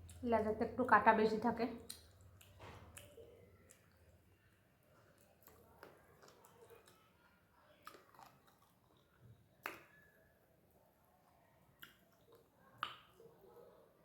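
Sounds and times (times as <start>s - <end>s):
soft chewing with mouth clicks: 0.0s - 0.2s, 1.7s - 14.0s.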